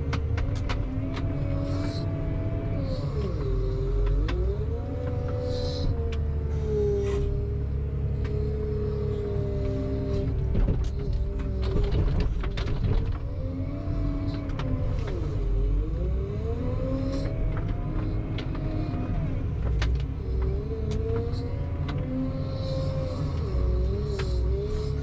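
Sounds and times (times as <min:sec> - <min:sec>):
tractor engine: 0:00.0 - 0:25.0.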